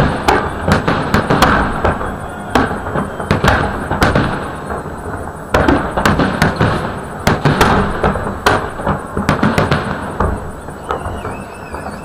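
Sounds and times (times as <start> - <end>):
fireworks bangs with rumbling echoes: 0.0 - 12.0.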